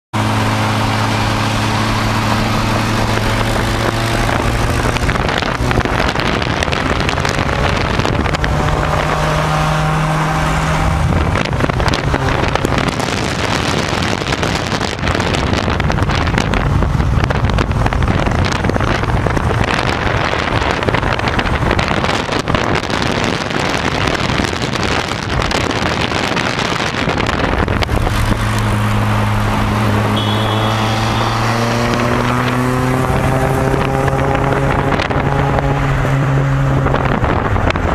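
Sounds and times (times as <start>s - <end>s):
car engine driving: 0.1s - 37.9s
wind noise on microphone: 0.2s - 37.9s.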